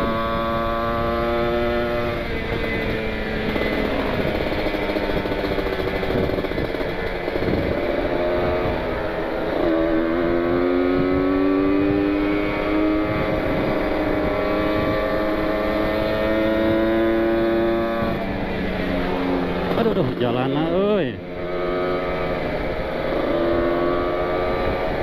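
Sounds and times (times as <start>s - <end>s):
wind noise on microphone: 0.0s - 20.2s, 22.2s - 25.0s
two-stroke motorcycle engine revving: 0.0s - 25.0s.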